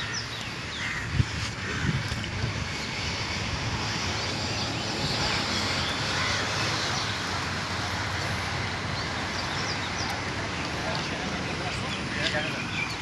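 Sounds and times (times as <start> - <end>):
birds chirping: 0.0 - 2.0, 3.9 - 13.0
steady background noise: 0.0 - 13.0.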